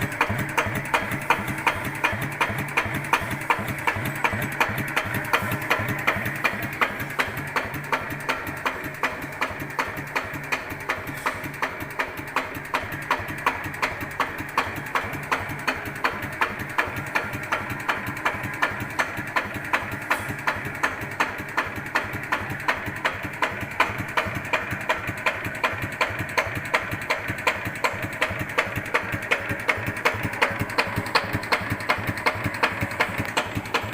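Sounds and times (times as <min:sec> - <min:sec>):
diesel engine idling with knocks: 0:00.0 - 0:33.9.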